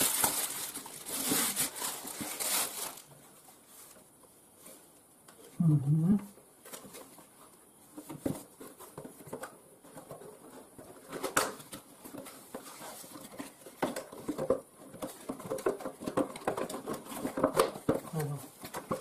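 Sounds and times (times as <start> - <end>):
plastic packing rustling: 0.0 - 4.9, 6.6 - 19.0.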